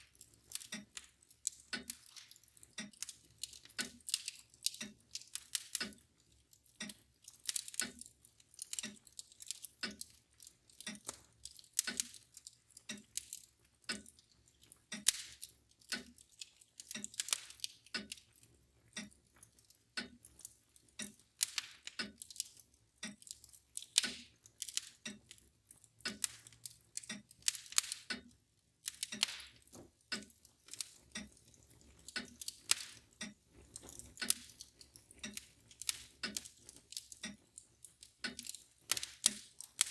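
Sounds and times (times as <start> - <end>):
mantel clock ticking: 0.0 - 39.9
wood fire crackling: 0.0 - 39.9.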